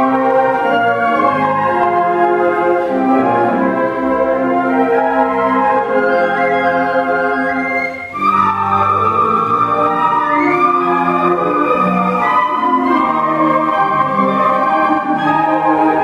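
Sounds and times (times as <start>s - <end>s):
flute choir playing chords: 0.0s - 16.0s.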